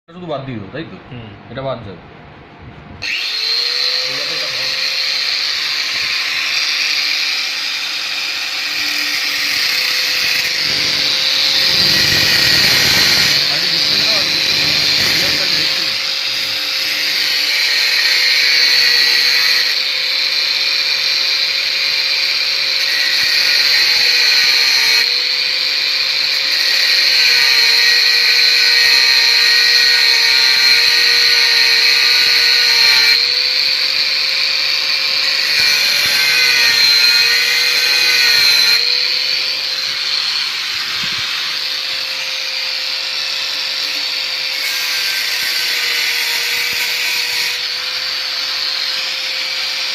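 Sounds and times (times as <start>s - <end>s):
angle grinder cutting steel: 3.0s - 49.9s.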